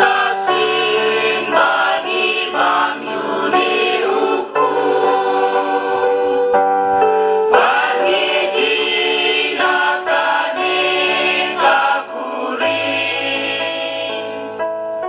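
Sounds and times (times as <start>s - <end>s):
choir singing: 0.0s - 6.7s, 7.5s - 14.6s.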